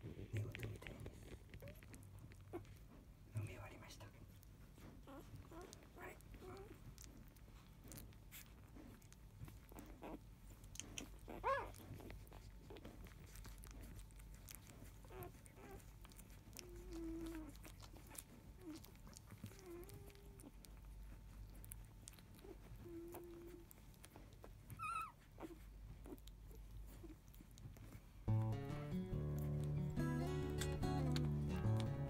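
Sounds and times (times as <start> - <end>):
puppies grunting and squeaking: 0.0 - 3.5, 4.5 - 32.0.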